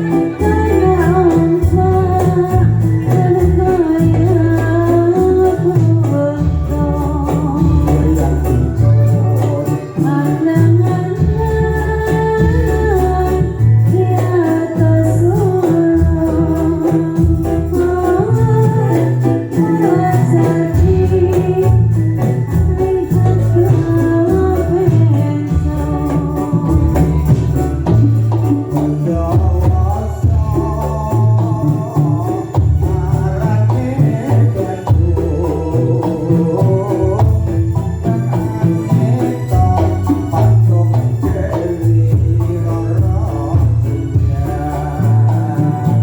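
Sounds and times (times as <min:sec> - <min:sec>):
band with pulsing bass beat: 0:00.0 - 0:46.0
jingling percussion: 0:00.0 - 0:46.0
person singing melody: 0:00.0 - 0:46.0.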